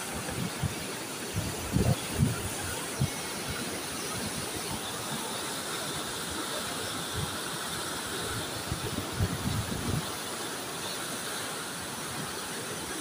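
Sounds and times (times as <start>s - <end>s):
whitewater rushing over rocks: 0.0s - 13.0s.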